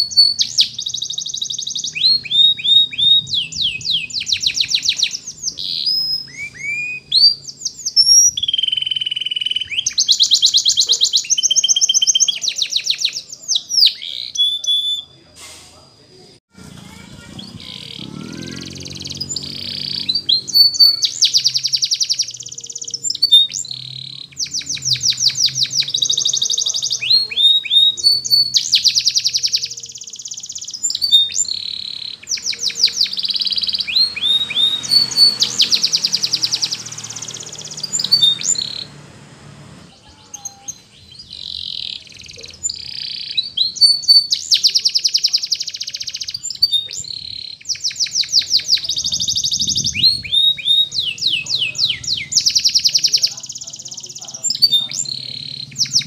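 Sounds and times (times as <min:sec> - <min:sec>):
canary singing trills: 0:00.0 - 0:15.3, 0:16.8 - 0:56.0.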